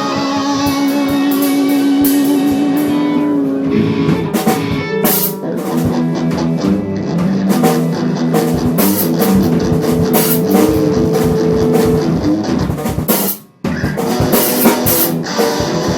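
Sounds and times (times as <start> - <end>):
drum kit: 0.0 - 15.9
electric guitar playing: 0.0 - 15.9.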